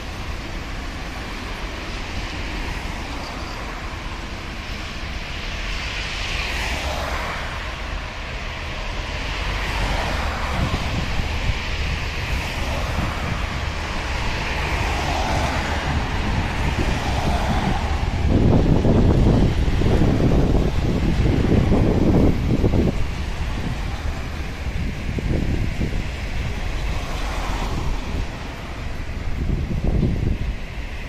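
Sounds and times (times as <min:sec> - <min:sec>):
cars swishing past: 0:00.0 - 0:31.0
rushing noise: 0:00.0 - 0:31.0
train engine rumble: 0:00.0 - 0:31.0.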